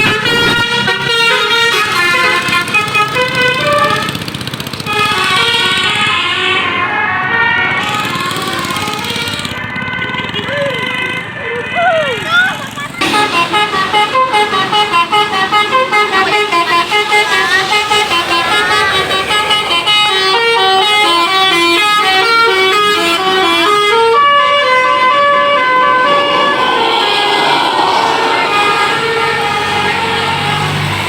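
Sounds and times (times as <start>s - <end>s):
multi-tone bus horn melody: 0.0s - 31.0s.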